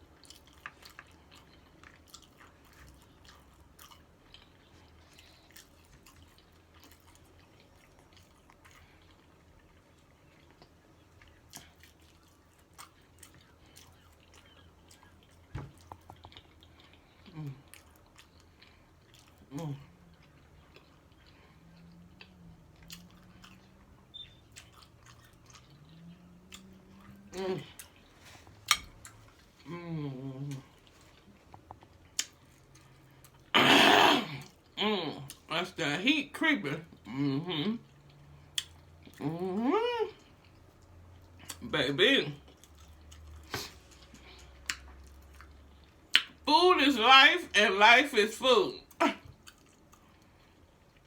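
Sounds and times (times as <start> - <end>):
chewing with wet mouth clicks: 0.0 - 33.5, 37.8 - 39.4, 40.1 - 41.6, 42.4 - 46.4, 48.9 - 51.0
faint low hum: 0.0 - 51.0.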